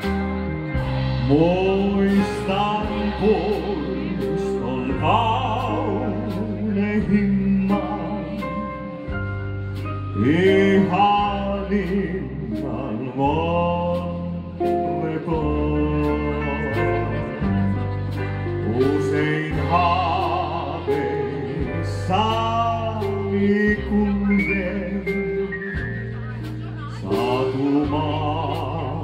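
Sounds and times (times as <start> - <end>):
man singing with vibrato: 0.0 - 9.4, 10.1 - 17.8, 18.6 - 29.0
sustained bass notes: 0.0 - 29.0.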